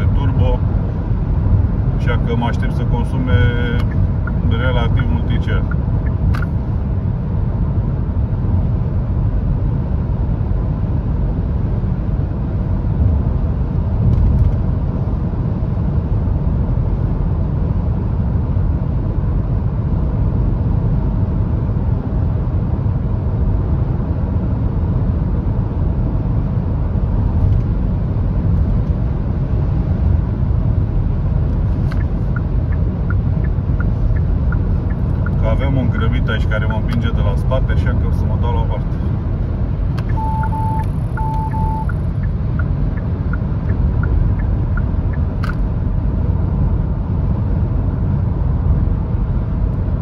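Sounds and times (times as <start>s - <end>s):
car cabin road rumble: 0.0s - 50.0s.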